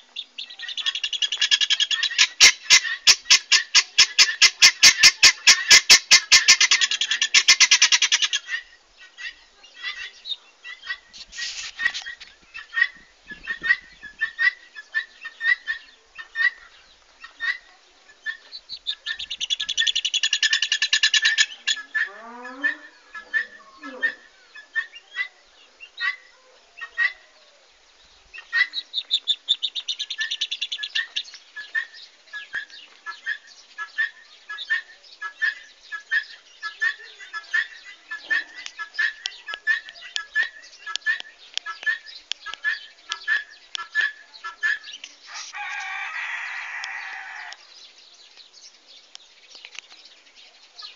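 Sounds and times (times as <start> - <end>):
guineafowl calling harsh notes: 0.4 - 27.7, 28.3 - 47.7.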